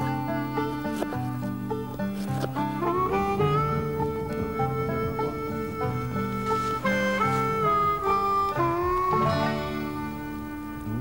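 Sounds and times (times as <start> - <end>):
harmonica bending notes: 0.0 - 11.0
plucked string accompaniment: 0.0 - 11.0.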